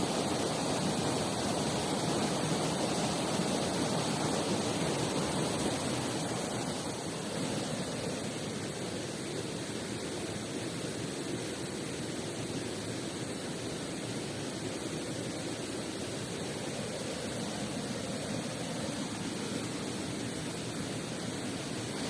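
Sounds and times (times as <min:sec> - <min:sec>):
river and waterfall rushing: 0:00.0 - 0:22.0.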